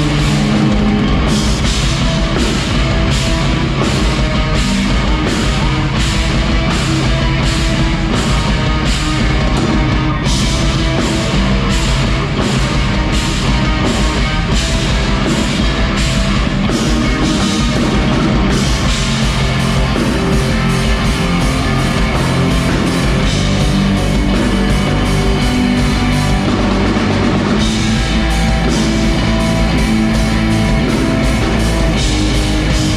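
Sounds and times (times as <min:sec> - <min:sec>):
drum beat: 0:00.0 - 0:32.9
rock band playing live: 0:00.0 - 0:32.9.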